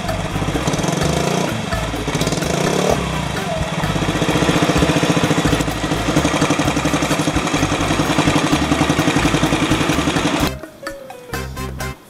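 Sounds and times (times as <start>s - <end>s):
scooter engine idling: 0.0s - 10.6s.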